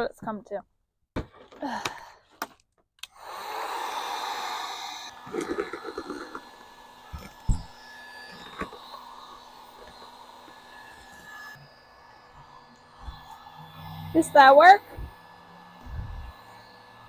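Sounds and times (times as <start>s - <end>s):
hot-air blower running: 3.0s - 17.0s.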